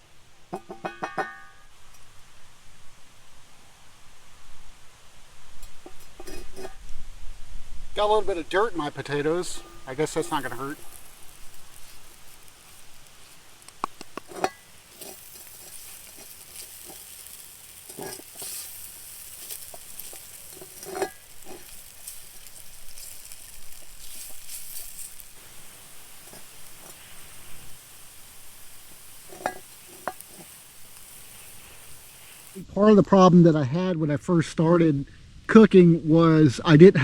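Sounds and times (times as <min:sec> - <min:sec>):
potatoes sizzling in oil: 0:00.0 - 0:32.7.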